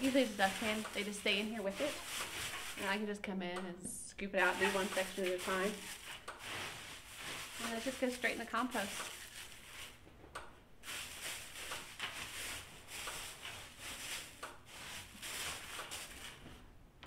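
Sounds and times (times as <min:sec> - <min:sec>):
wood shavings rustling: 0:00.0 - 0:03.1, 0:04.3 - 0:10.1, 0:10.8 - 0:16.6.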